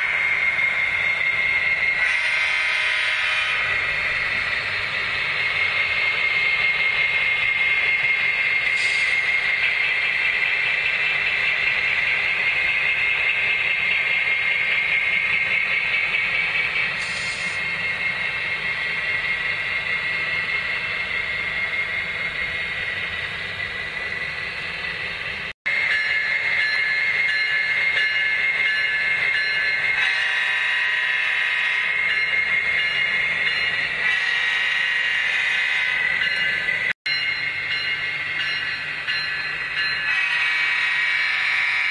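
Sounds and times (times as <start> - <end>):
model train whine: 0.0 - 41.9
wheels rattling on rails: 0.0 - 41.9.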